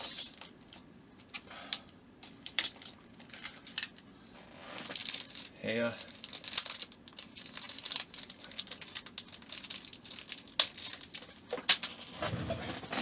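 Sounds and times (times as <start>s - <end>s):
plastic parts and packaging rustling: 0.0s - 13.0s.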